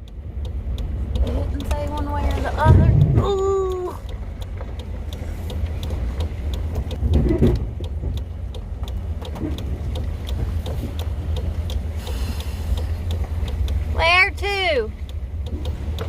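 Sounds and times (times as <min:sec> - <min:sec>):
engine ticking: 0:00.0 - 0:16.0
truck engine rumbling: 0:00.0 - 0:16.0.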